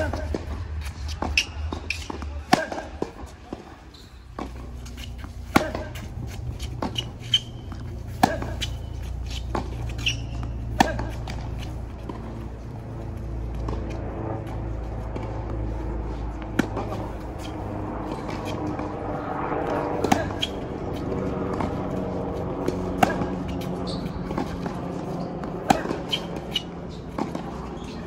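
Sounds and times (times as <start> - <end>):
balls bouncing on hard court: 0.0 - 19.1, 19.7 - 28.0
low hum: 0.0 - 27.9
tennis balls struck by rackets: 0.0 - 28.0.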